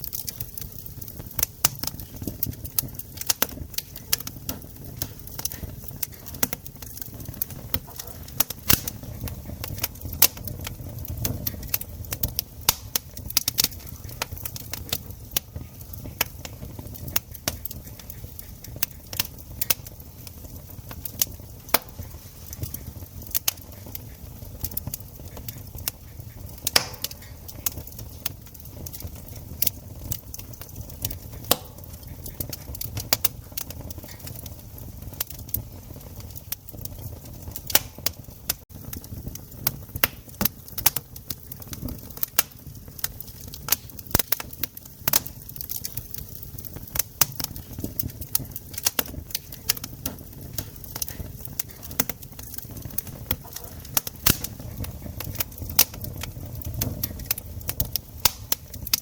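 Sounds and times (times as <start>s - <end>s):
campfire crackling: 0.0s - 59.0s
low rumble of flame: 0.0s - 59.0s
sharp snaps and pops: 0.0s - 59.0s.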